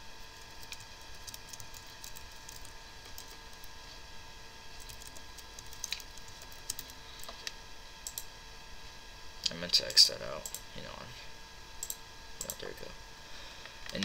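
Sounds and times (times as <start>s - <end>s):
computer whine: 0.0s - 13.0s.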